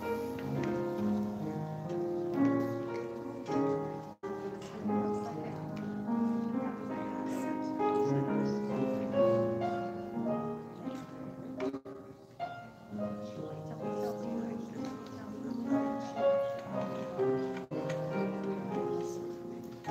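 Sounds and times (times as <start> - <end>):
solo piano hymn-like piece: 0.0 - 19.9.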